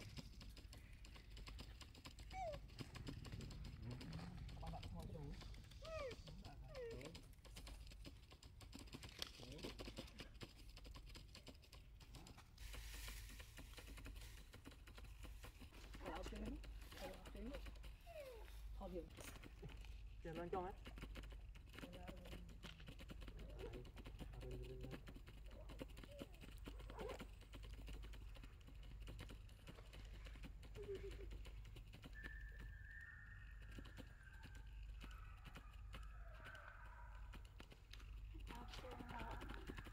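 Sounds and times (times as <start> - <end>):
small clicks and crackles: 0.0 - 39.9.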